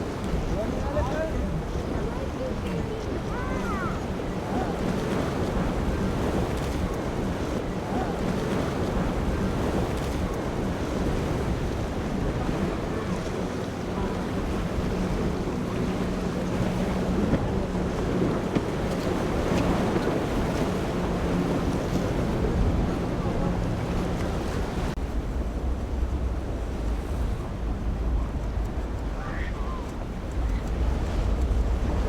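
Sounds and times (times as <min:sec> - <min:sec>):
boat engine droning: 0:00.0 - 0:32.0
waves and surf breaking: 0:00.0 - 0:32.0
wind buffeting microphone: 0:00.0 - 0:32.0.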